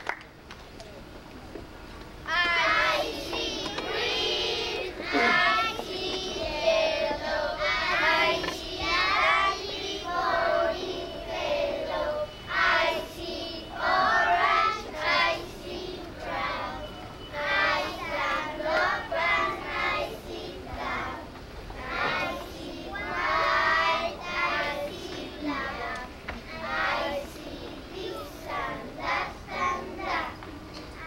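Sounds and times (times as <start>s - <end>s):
children singing: 2.3s - 30.4s.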